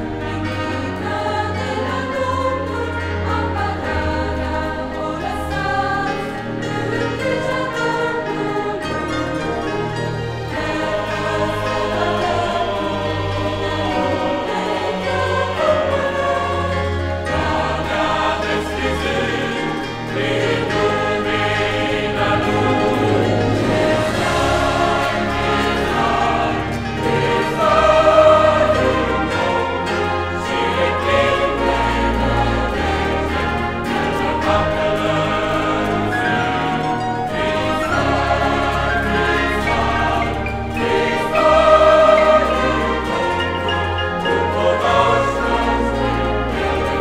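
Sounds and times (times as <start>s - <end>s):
brass band playing: 0.0s - 47.0s
mixed choir singing a hymn: 0.0s - 47.0s.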